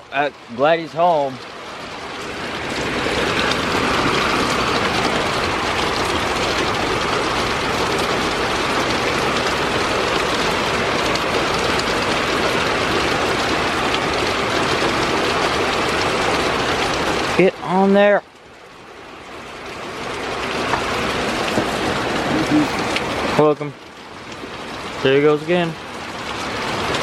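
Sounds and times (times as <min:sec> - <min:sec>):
heavy rain roaring: 0:00.0 - 0:27.0.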